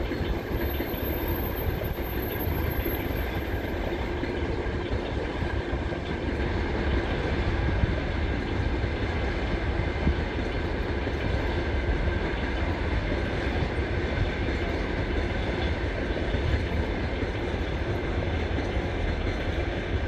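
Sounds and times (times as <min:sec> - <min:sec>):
train coaches rumbling on track: 0:00.0 - 0:20.0.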